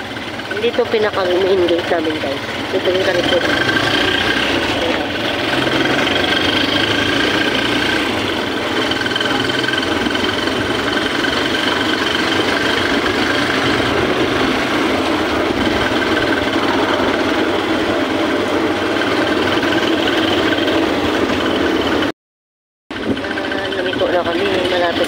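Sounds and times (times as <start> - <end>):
road noise: 0.0 - 22.1, 22.9 - 25.0
small vehicle engine running: 0.0 - 22.1, 22.9 - 25.0.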